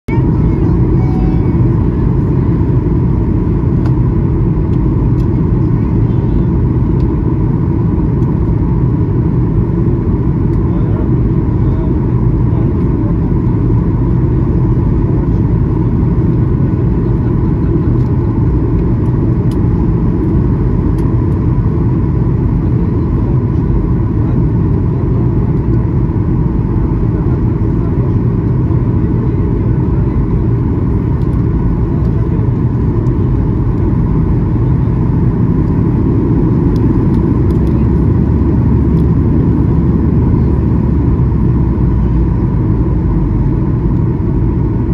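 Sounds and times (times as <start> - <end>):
airplane cabin rumble: 0.0 - 44.9
faint steady whine: 0.1 - 44.9.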